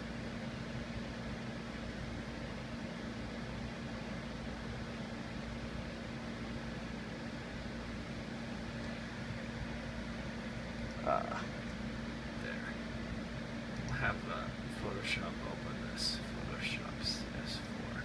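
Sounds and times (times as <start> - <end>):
cooling fans whirring: 0.0 - 18.0.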